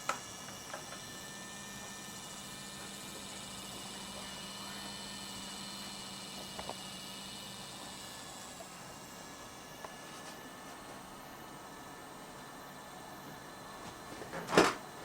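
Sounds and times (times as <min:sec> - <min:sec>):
electric gear motor humming and whining: 0:00.0 - 0:15.0.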